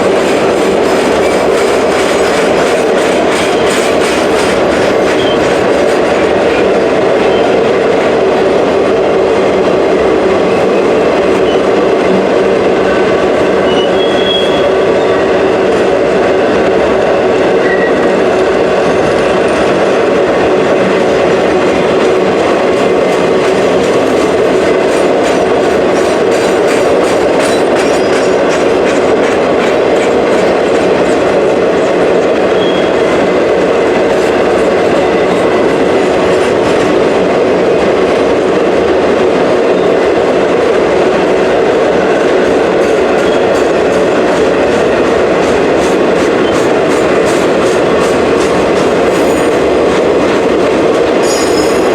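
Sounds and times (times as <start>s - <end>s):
freight train cars rolling past: 0.0s - 51.9s.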